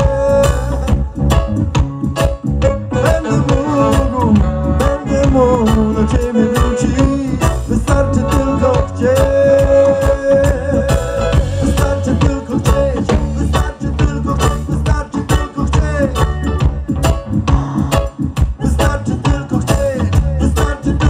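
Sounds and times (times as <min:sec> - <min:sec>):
live reggae band playing: 0:00.0 - 0:21.0.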